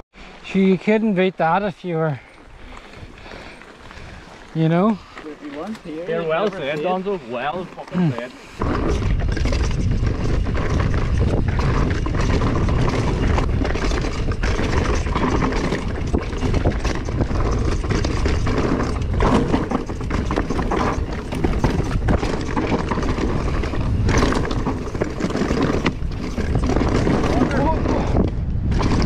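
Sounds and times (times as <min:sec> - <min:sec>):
bike tyres clattering over stones: 0:01.4 - 0:29.0
bike shaking over bumps: 0:02.3 - 0:29.0.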